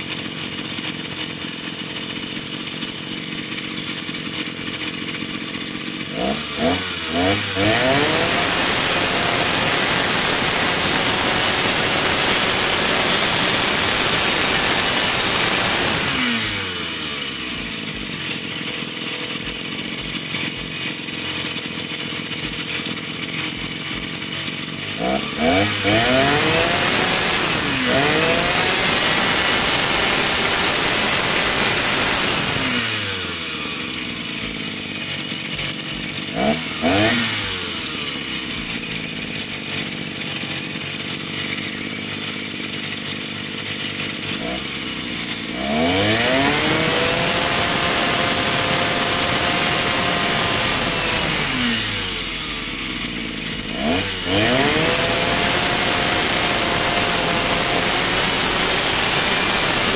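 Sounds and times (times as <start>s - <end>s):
brush cutter engine revving: 0.0s - 59.9s.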